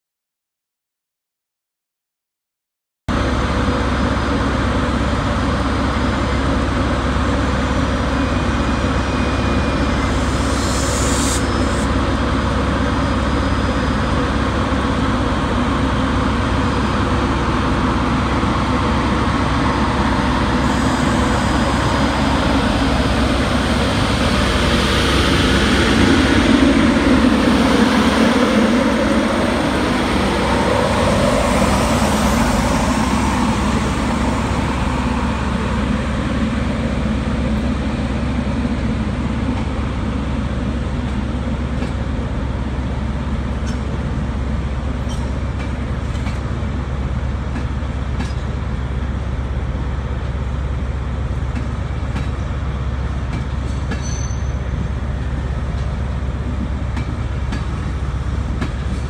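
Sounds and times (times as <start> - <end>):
electric locomotive fans droning: 3.1 - 59.0
rising locomotive whine: 3.1 - 59.0.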